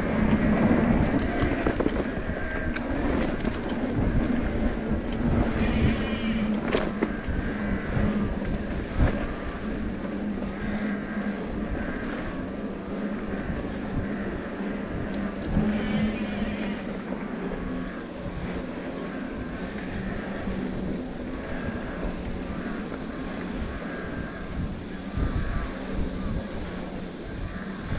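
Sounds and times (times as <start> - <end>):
bike tyre and drivetrain noise: 0.0 - 27.9.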